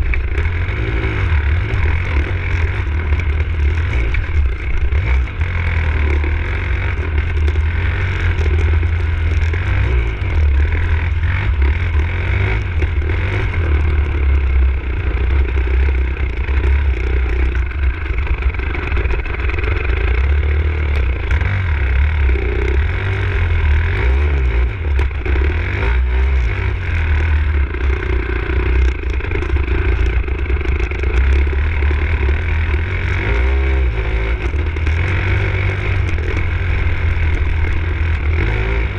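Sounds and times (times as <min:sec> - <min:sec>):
deep rumble: 0:00.0 - 0:38.9
dirt bike engine revving: 0:00.0 - 0:38.9.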